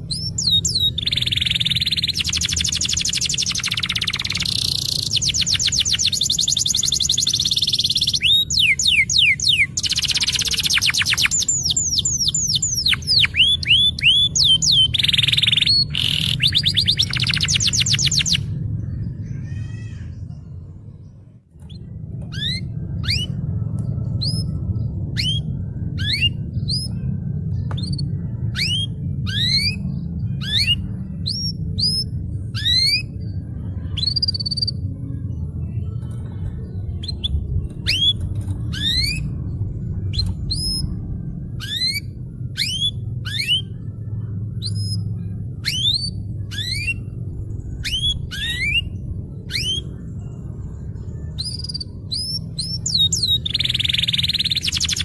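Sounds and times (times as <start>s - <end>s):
canary singing: 0.0s - 20.6s, 21.6s - 35.4s, 36.0s - 55.0s
steady low rumble: 0.0s - 55.0s.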